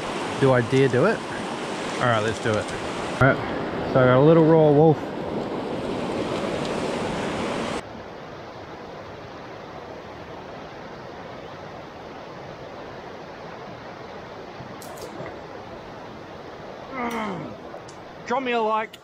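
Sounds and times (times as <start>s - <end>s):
river rushing over rapids: 0.0s - 18.3s.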